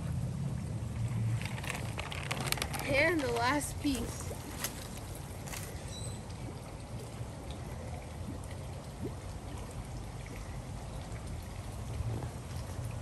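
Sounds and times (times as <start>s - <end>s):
steady low rumble: 0.0s - 13.0s
water splashing and trickling: 0.0s - 13.0s.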